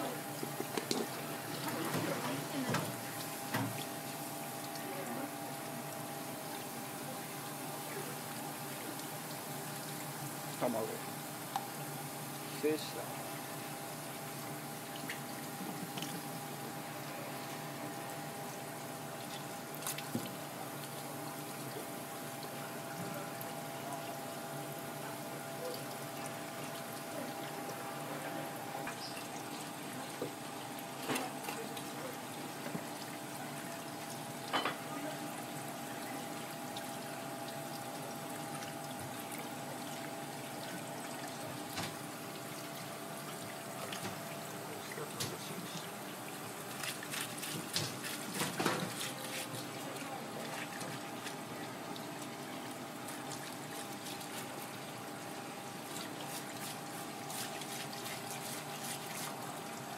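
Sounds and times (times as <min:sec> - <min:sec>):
tap water running: 0:00.0 - 0:59.9.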